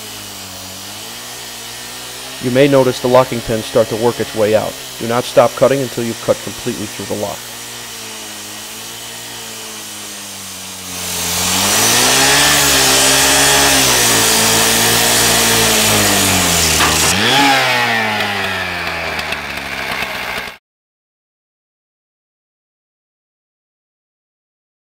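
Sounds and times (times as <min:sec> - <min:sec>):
rescue saw grinding through metal: 0:00.0 - 0:20.6.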